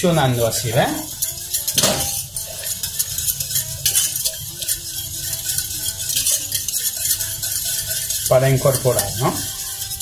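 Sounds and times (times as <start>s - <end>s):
whisk beating in saucepan: 0.0s - 10.0s
whisk clatter: 0.0s - 10.0s.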